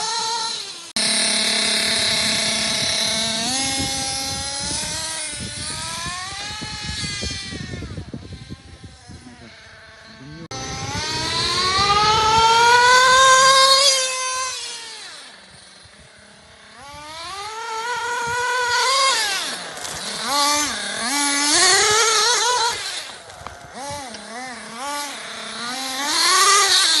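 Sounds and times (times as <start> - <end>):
rc car engine revving: 0.0 - 27.0.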